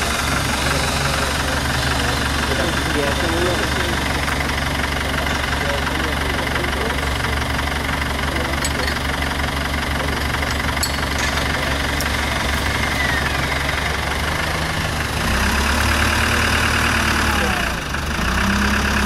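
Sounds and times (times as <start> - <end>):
off-road vehicle engine idling: 0.0 - 19.0.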